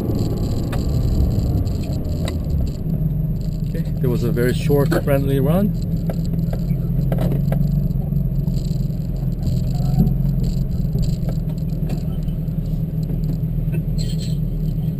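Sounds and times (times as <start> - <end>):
car engine low drone: 0.0 - 14.9.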